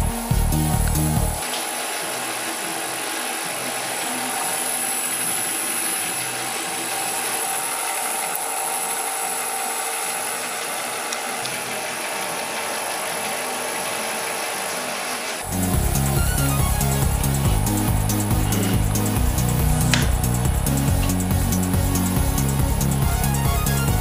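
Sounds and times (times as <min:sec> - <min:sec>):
milling machine whirring: 0:00.0 - 0:24.0.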